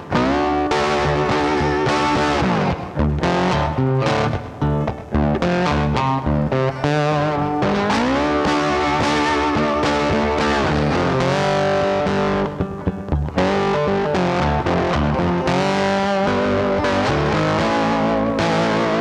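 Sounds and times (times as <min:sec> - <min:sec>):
bass line: 0:00.0 - 0:19.0
distorted electric guitar lead: 0:00.0 - 0:19.0.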